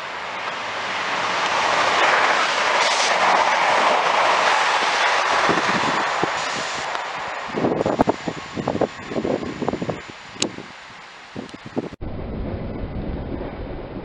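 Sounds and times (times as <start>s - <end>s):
train passing at speed: 0.0s - 11.4s.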